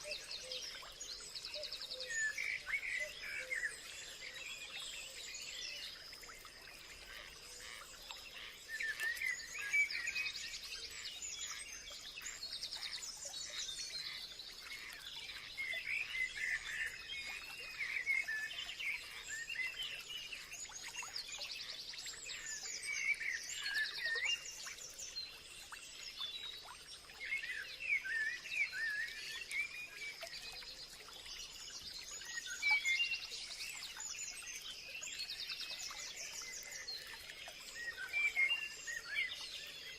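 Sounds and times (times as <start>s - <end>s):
birds singing and chirping: 0.0s - 6.0s, 7.0s - 39.9s.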